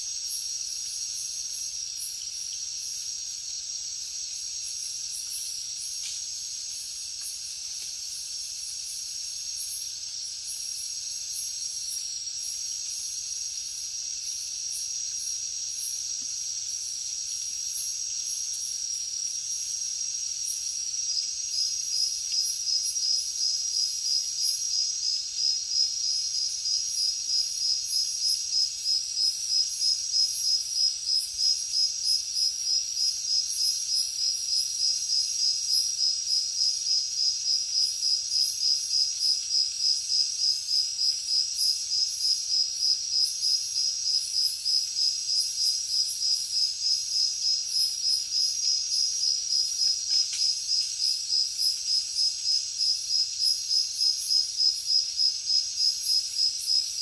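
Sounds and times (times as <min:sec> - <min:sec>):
crickets chirping: 0:00.0 - 0:57.0
faint continuous insect trill: 0:00.0 - 0:57.0.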